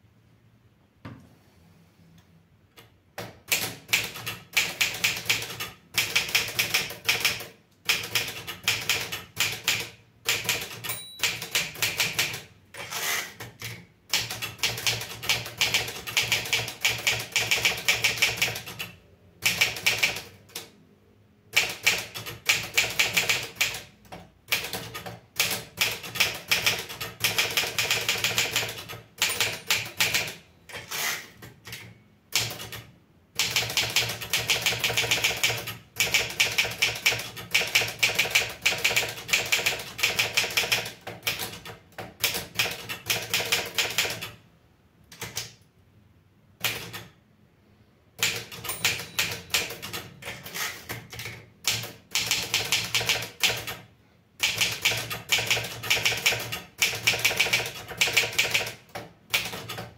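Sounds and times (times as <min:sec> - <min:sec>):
typewriter keystrokes clacking: 0:03.2 - 0:20.7, 0:21.6 - 0:44.4, 0:45.1 - 0:45.6, 0:46.6 - 0:47.2, 0:48.2 - 0:53.8, 0:54.4 - 0:59.9
typewriter carriage return: 0:03.4 - 0:20.7, 0:21.6 - 0:44.3, 0:48.2 - 0:53.8, 0:54.4 - 0:59.9.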